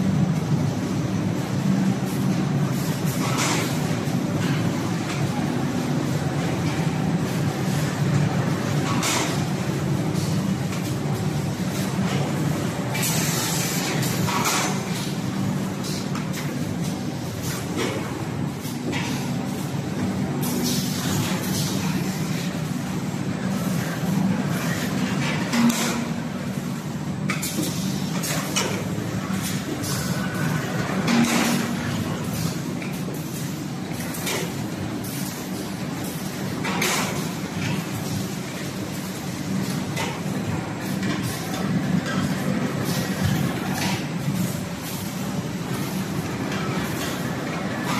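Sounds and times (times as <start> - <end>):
mechanism clicks and clatters: 0.0 - 47.9.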